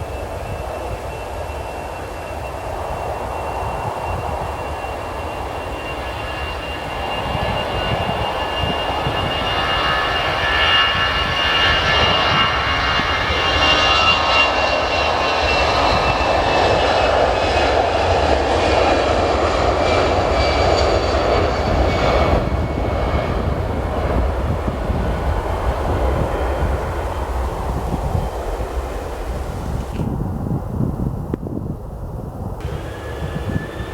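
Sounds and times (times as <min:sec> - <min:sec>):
jet engines rumbling and whining: 0:00.0 - 0:33.9.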